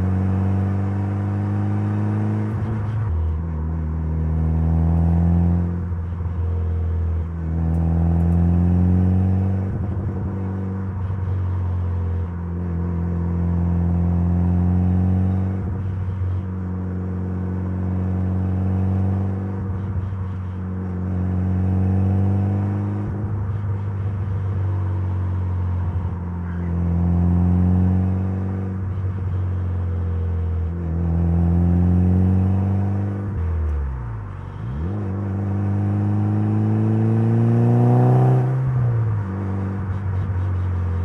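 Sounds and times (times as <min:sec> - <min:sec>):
car engine revving through gears: 0:00.0 - 0:05.9, 0:07.2 - 0:19.8, 0:20.7 - 0:23.6, 0:24.4 - 0:41.0.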